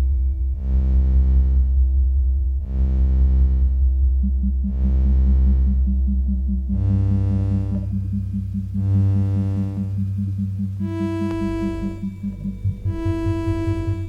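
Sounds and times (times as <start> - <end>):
deep bass drone: 0.0 - 14.0
rapidly pulsing tone: 0.0 - 14.0
synthesizer chords: 0.0 - 14.0.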